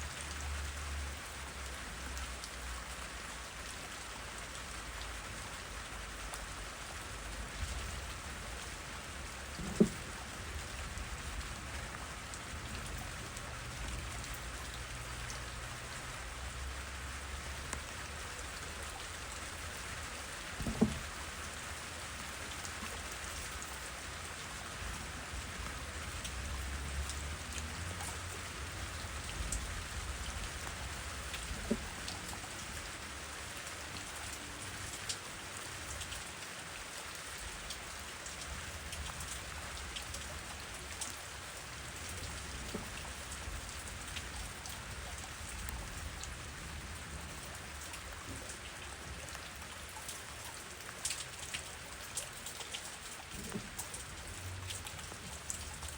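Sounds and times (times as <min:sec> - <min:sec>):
steady rain hiss: 0:00.0 - 0:55.9
raindrops landing close: 0:01.4 - 0:55.9.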